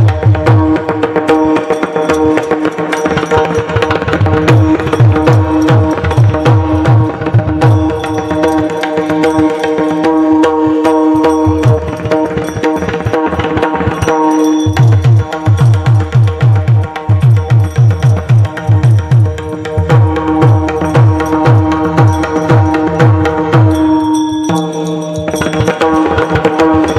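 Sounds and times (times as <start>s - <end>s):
hand drum playing: 0.0s - 26.9s
hand cymbals clicking: 1.2s - 26.9s.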